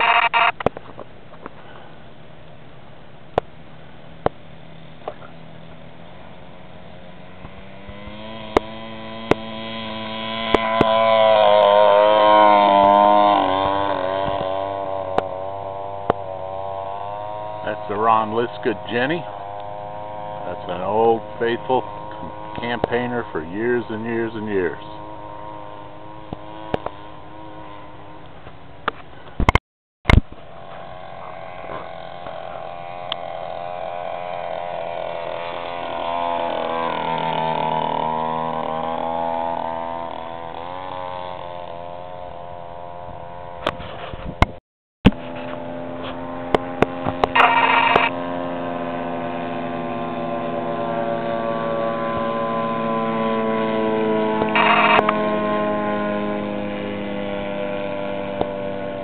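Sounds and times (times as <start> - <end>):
model plane engine droning: 0.0 - 29.5, 30.1 - 59.0.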